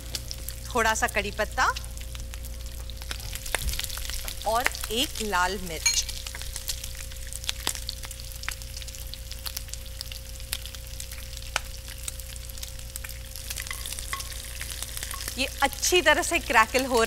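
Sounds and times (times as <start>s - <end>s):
seeds crackling in hot oil: 0.0s - 17.0s.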